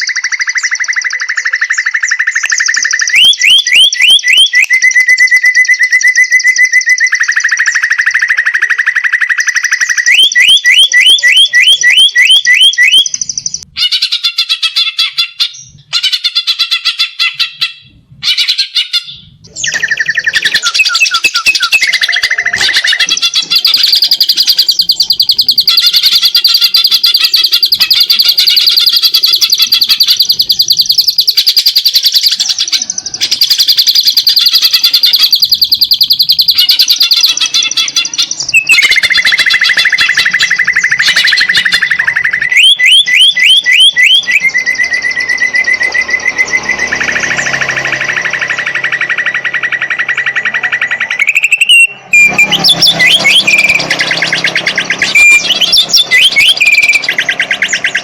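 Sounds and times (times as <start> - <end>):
bird singing chirps and trills: 0.0 - 58.0.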